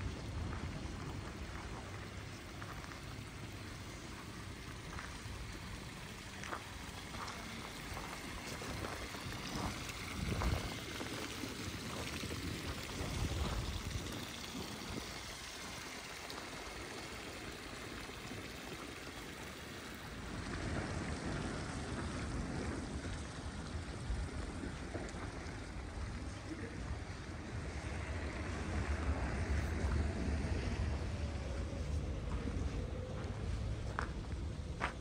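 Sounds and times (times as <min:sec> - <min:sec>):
fountain water splashing: 0:00.0 - 0:35.0.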